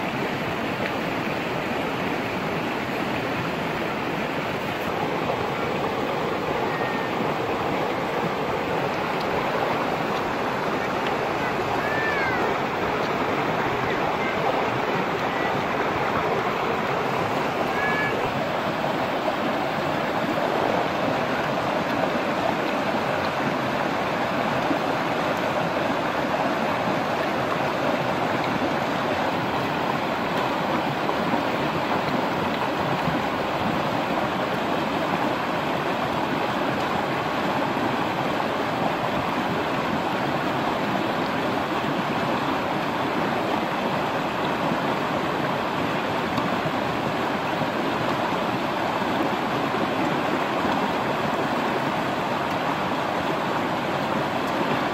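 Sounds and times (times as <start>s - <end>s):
river rushing over rapids: 0.0s - 54.9s.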